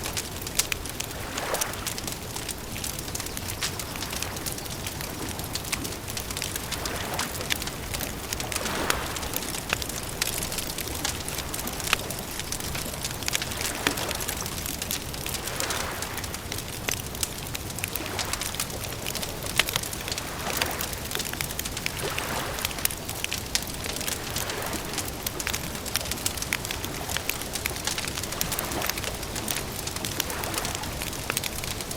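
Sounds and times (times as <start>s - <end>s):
burning wood popping: 0.0s - 31.9s
campfire crackling: 0.0s - 31.9s.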